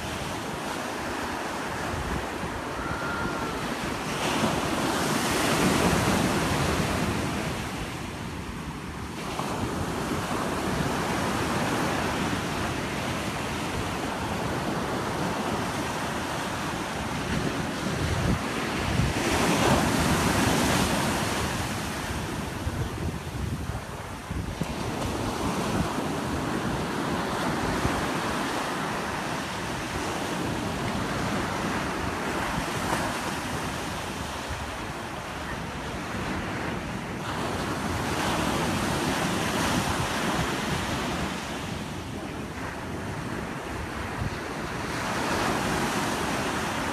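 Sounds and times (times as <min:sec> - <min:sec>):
ocean surf breaking: 0:00.0 - 0:46.9
wind buffeting microphone: 0:00.0 - 0:46.9.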